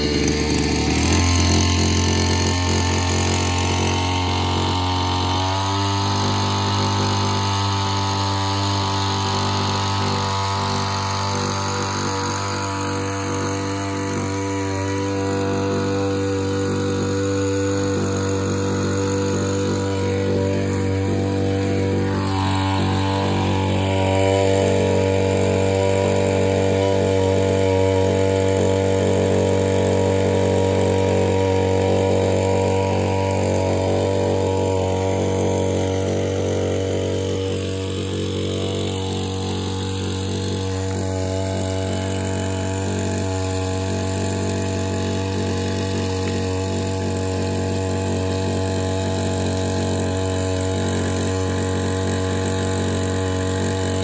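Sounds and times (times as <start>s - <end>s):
small engine running a pump: 0.0s - 54.0s.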